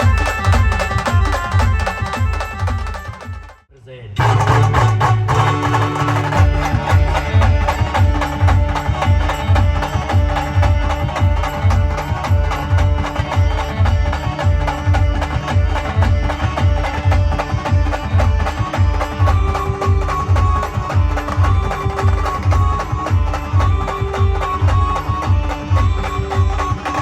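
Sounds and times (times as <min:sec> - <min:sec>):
fast drum beat: 0:00.0 - 0:03.6, 0:04.2 - 0:27.0
melody instruments: 0:04.4 - 0:27.0.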